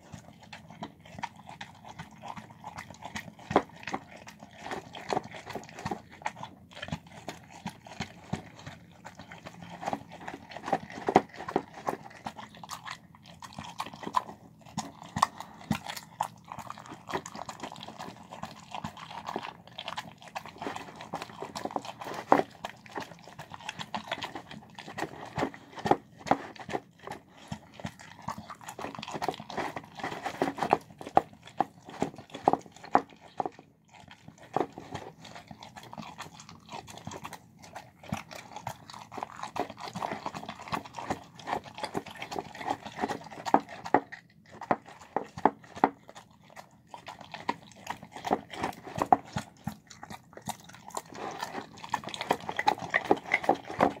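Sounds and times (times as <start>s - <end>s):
dog eating wet smacking: 0.0s - 54.0s.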